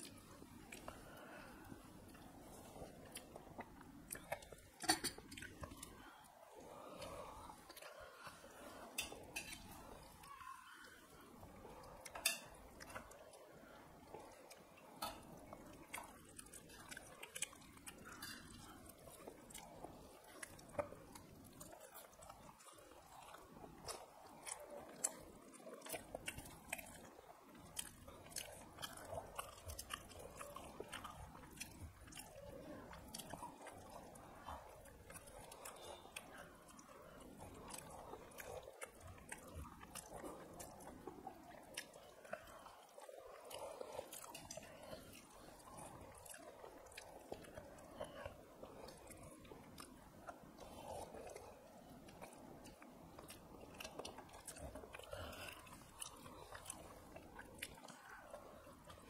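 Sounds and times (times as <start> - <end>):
people chewing and lip smacking: 0.0 - 59.0.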